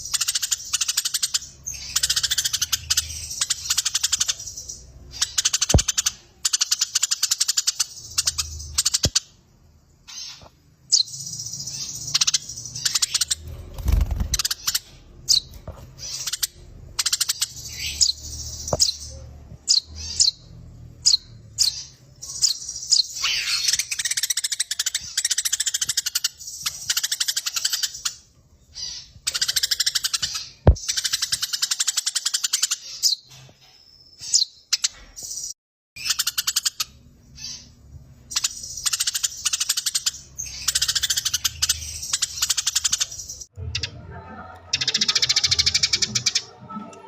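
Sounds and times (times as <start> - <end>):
sparrows chattering: 0.0 - 44.0, 44.8 - 47.0.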